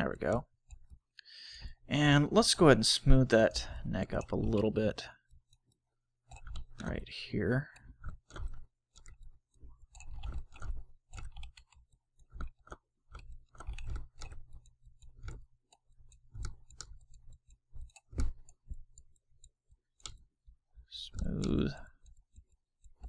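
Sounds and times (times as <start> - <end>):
computer mouse clicking: 0.3 - 1.8, 3.6 - 20.4, 21.0 - 23.0.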